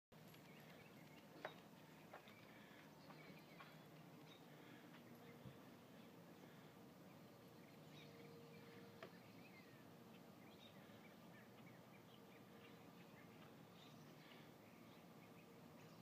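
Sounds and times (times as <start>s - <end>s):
faint steady hum: 0.2s - 16.0s
bird chirps: 0.3s - 16.0s.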